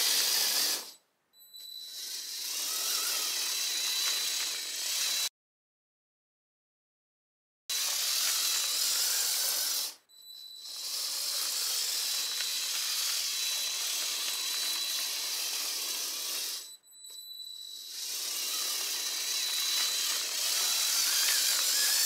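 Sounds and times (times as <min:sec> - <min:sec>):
toy train motor rattling: 0:00.0 - 0:01.0, 0:01.8 - 0:05.3, 0:07.7 - 0:16.8, 0:17.7 - 0:22.0.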